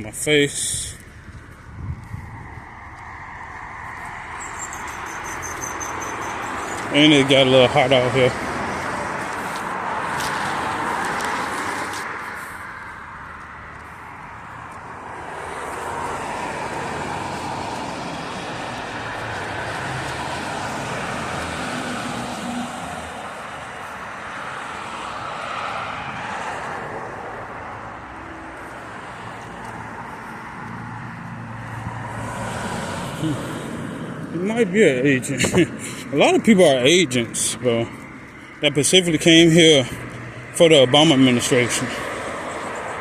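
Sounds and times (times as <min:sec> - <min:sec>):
cars passing: 0:00.0 - 0:43.0.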